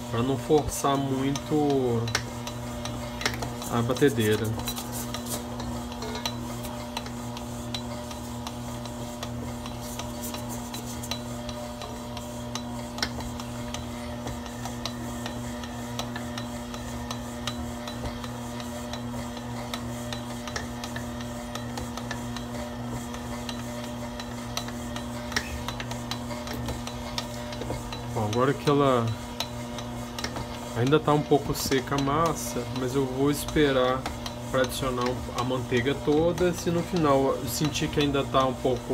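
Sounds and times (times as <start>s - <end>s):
stand mixer motor humming: 0.0s - 38.9s.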